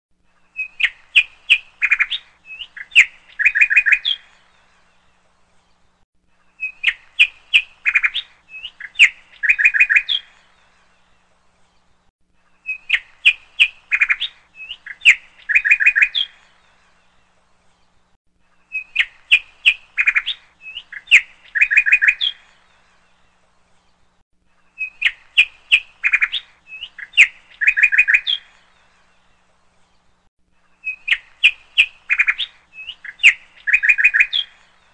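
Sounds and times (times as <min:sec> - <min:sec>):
birdsong with quick high chirps: 0:00.2 - 0:34.9.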